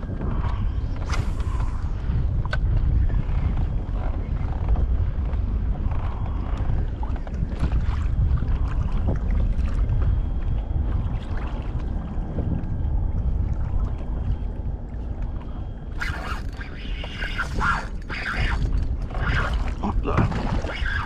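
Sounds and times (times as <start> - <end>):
light water sounds: 0.0 - 21.0
wind rumbling on microphone: 0.0 - 21.0.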